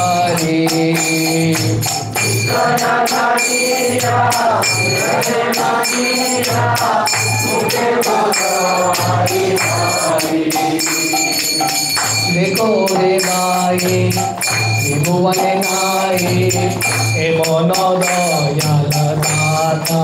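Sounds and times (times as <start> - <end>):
drum keeping time: 0.0 - 20.0
group of voices singing: 0.0 - 20.0
hand cymbals struck: 0.0 - 20.0.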